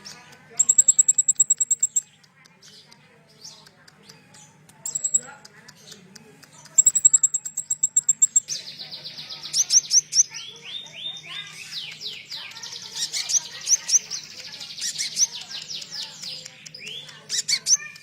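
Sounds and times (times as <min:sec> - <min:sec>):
sharp high ticks: 0:00.0 - 0:08.6, 0:11.3 - 0:18.0
bird twittering: 0:00.0 - 0:18.0.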